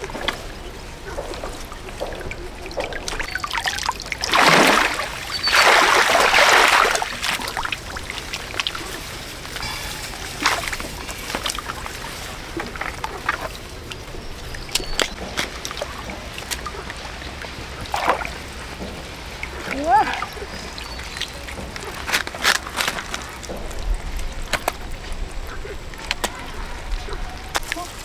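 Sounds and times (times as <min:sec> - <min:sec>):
loud water splashes: 0:00.0 - 0:28.0
water trickling: 0:00.0 - 0:28.0.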